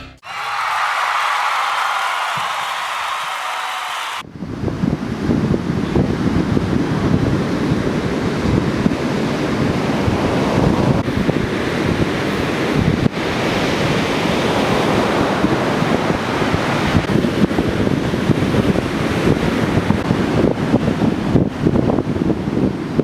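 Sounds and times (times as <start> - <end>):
ocean surf breaking ashore: 0.6 - 23.0
wind buffeting microphone: 4.2 - 23.0.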